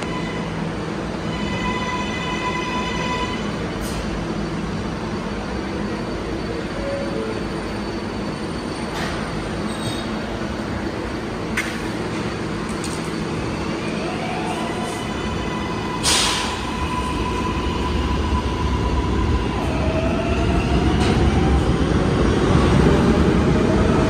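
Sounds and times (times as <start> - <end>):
train squeals and clanks: 0.0 - 10.8, 11.4 - 21.6
subway train rumbling: 0.0 - 24.0.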